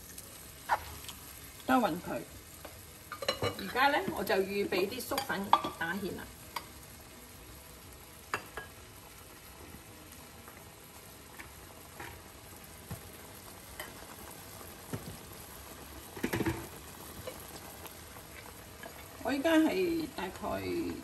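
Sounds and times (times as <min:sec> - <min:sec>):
stew sizzling and bubbling: 0:00.0 - 0:21.0.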